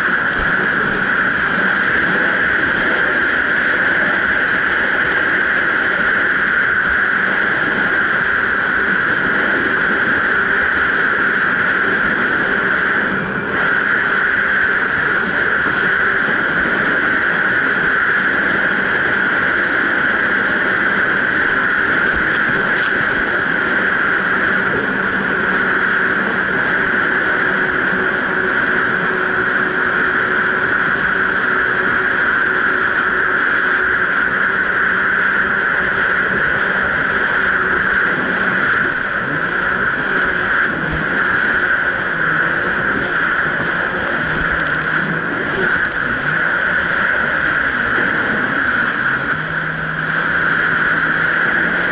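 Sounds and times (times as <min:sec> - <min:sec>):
jet ski engine running: 0:00.0 - 0:51.9
rushing water: 0:00.0 - 0:51.9
wind: 0:00.0 - 0:51.9.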